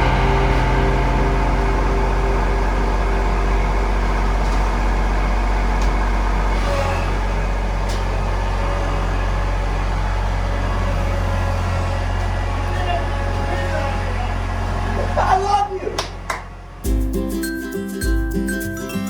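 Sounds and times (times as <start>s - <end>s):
tractor diesel engine running: 0.0s - 17.1s.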